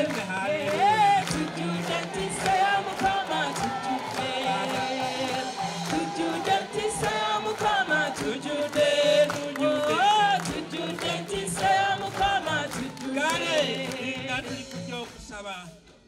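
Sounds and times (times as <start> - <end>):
choir singing: 0.0 - 14.9
crowd singing along: 0.0 - 15.1
lead voice singing: 0.0 - 15.6
band accompaniment: 0.0 - 16.0.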